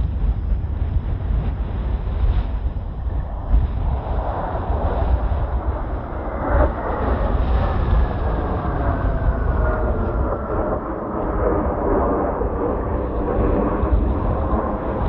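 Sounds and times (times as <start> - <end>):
jet engine roar: 0.0 - 15.0
wind rumble on microphone: 0.0 - 15.0.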